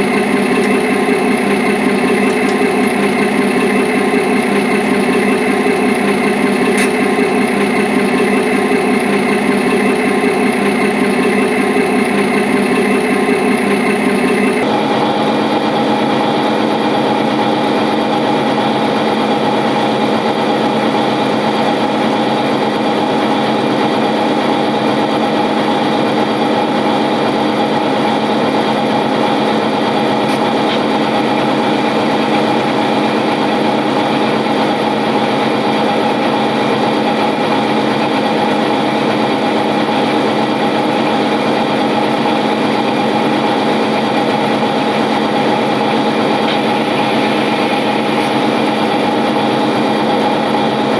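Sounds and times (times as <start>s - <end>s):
model train locomotive drone: 0.0s - 50.9s.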